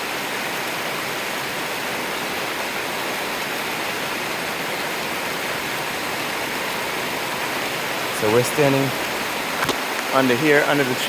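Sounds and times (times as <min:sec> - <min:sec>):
rain falling on trees: 0:00.0 - 0:11.0.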